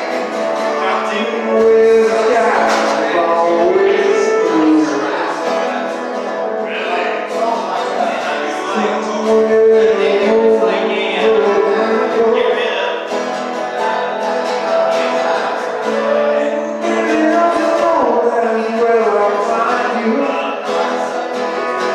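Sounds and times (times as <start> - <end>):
acoustic guitar strumming: 0.0 - 21.9
person singing: 0.0 - 21.9.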